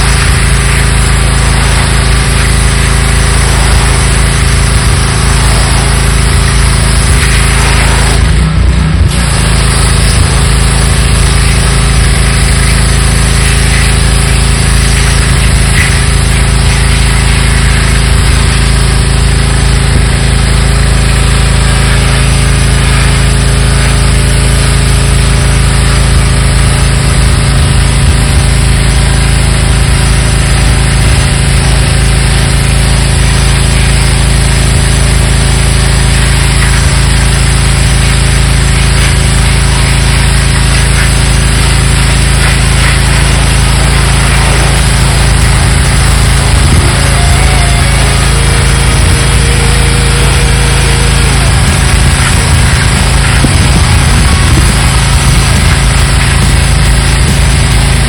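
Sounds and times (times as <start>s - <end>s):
pressure washer engine running: 0.0s - 58.0s
pressure washer hiss: 0.0s - 58.0s.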